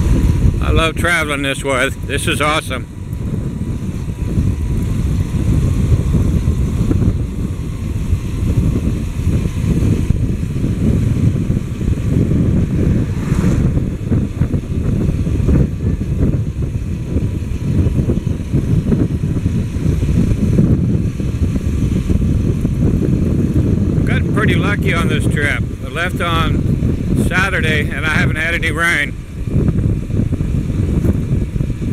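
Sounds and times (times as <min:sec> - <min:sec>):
motorcycle engine running: 0:00.0 - 0:31.9
wind rumble on microphone: 0:00.0 - 0:31.9.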